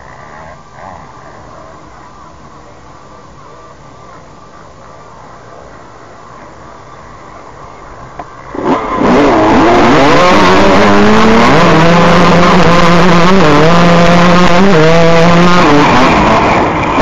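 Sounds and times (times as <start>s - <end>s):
dirt bike engines revving: 0.0s - 3.6s, 4.7s - 17.0s.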